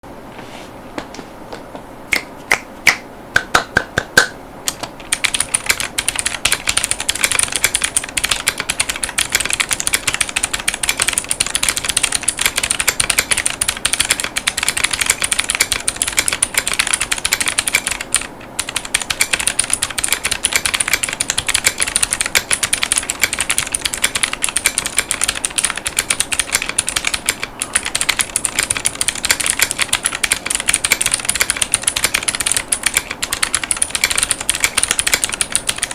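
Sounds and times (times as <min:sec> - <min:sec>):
mechanical keyboard typing: 0:04.7 - 0:35.9.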